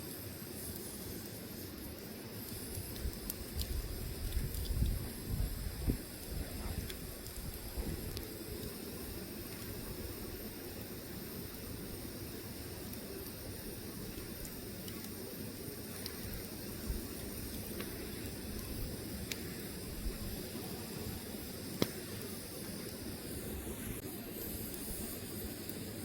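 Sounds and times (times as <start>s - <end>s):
fire hissing and rustling: 0.0s - 26.0s
wood crackling and popping: 0.6s - 26.0s.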